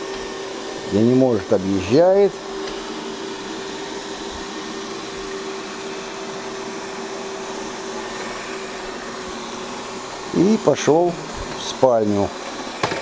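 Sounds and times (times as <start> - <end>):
robot vacuum cleaner whirring: 0.0 - 13.0.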